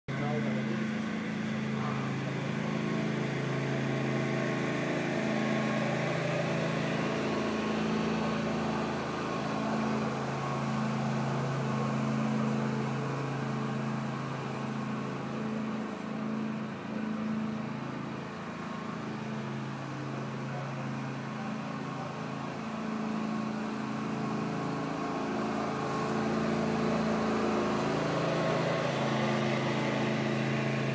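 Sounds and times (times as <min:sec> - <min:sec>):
riding lawn mower engine running: 0:00.1 - 0:30.9.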